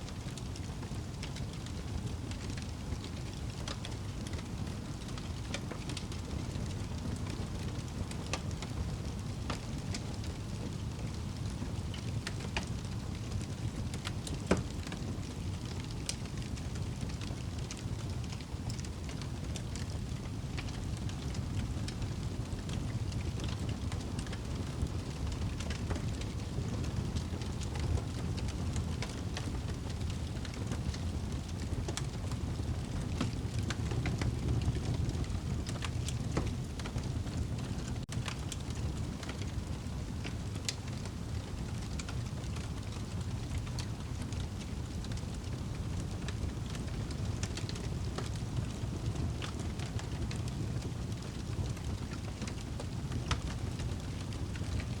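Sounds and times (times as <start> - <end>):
fire crackling and popping: 0.1 - 55.0
fire rumbling: 0.1 - 55.0.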